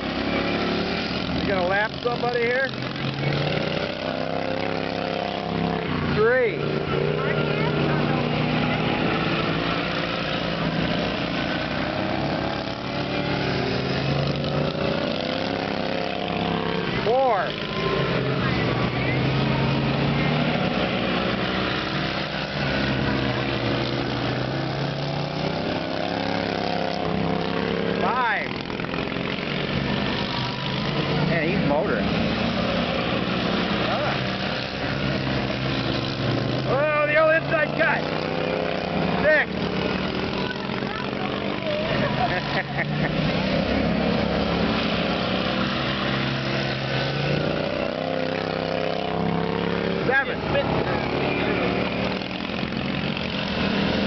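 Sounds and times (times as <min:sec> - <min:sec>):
lawn tractor engines racing: 0:00.0 - 0:54.0.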